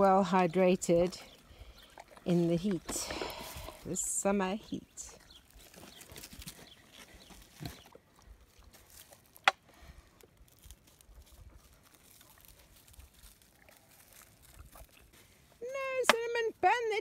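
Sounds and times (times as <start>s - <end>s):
pigs drinking from water tub: 0.0s - 15.6s.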